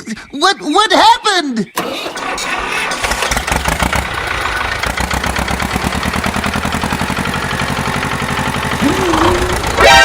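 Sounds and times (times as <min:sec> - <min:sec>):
engine idling: 0:01.8 - 0:10.0.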